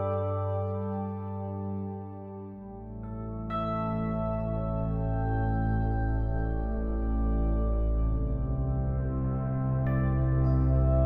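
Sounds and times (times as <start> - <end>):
ambient keyboard chords: 0.0 - 11.0.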